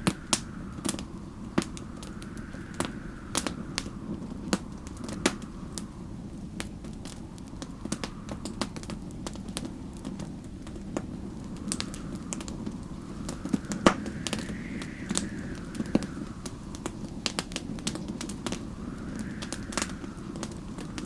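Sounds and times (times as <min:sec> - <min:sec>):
log fire crackling and popping: 0:00.0 - 0:21.0
wind howling: 0:00.0 - 0:21.0.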